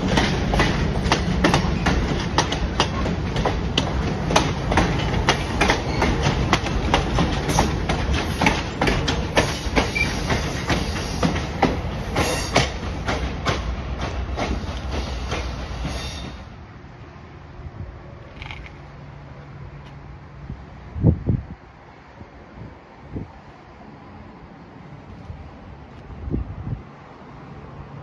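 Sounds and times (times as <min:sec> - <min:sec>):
train cars rumbling past: 0:00.0 - 0:28.0.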